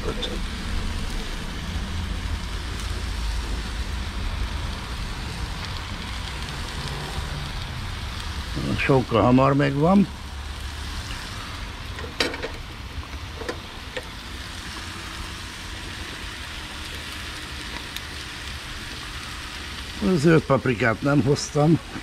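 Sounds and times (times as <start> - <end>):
food sizzling on a grill: 0.0 - 22.0.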